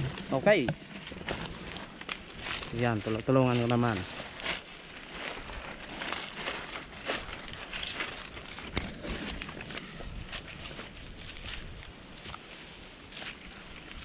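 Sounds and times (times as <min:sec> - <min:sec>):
dry leaves crackling: 0:00.0 - 0:14.0
footsteps through dry grass: 0:00.0 - 0:14.0.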